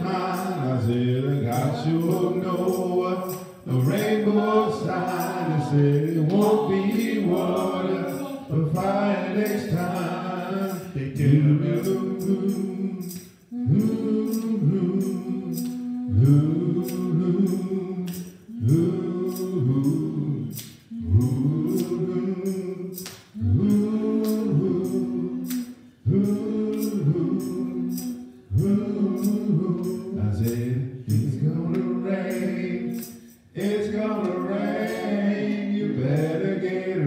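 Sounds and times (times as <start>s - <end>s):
men singing gospel song: 0.0s - 37.0s.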